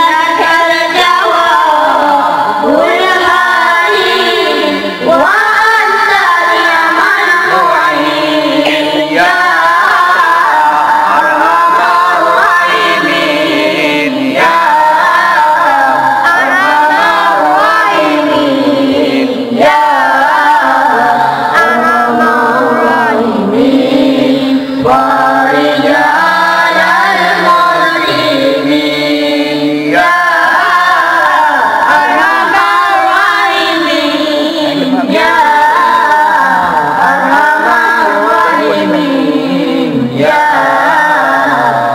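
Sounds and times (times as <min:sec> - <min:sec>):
boys singing into microphones: 0:00.0 - 0:41.9.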